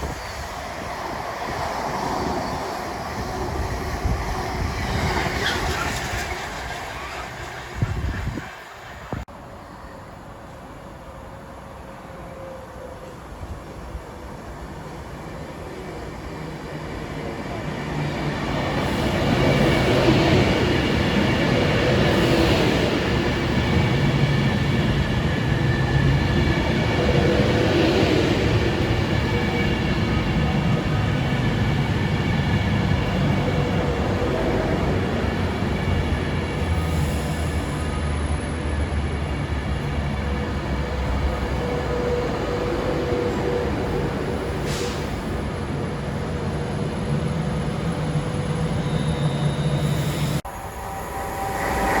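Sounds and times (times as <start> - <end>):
train passing on track: 0.0 - 52.0.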